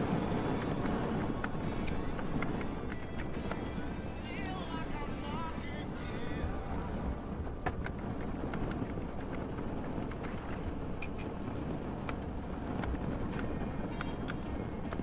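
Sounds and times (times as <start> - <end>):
rain falling: 0.0 - 15.0
sharp drips and ticks: 0.0 - 15.0
steady low rumble: 0.0 - 15.0.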